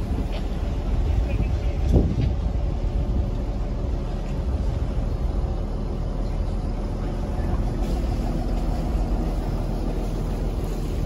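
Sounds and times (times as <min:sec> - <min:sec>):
boat diesel engine rumbling: 0:00.0 - 0:11.0.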